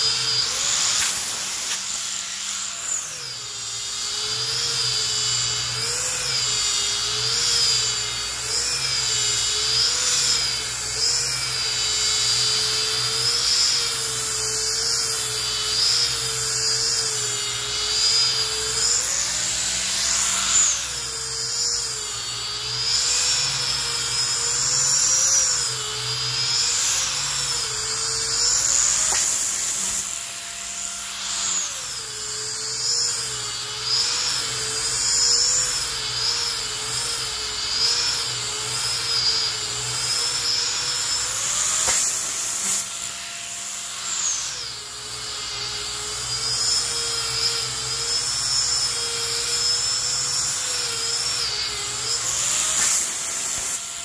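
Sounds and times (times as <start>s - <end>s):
angle grinder sanding wood: 0.0s - 54.0s.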